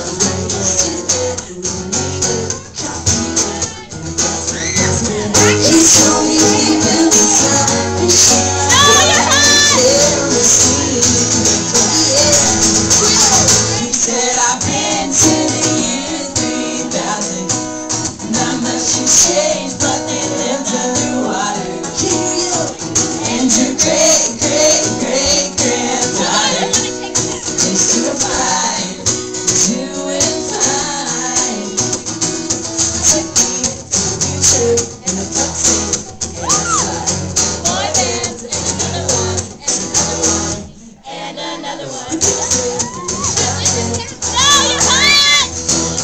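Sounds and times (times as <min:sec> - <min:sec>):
man singing into microphone: 0:00.0 - 0:32.2, 0:32.8 - 0:41.0, 0:41.8 - 0:45.5
pop rock band playing: 0:00.0 - 0:40.8, 0:41.8 - 0:46.0.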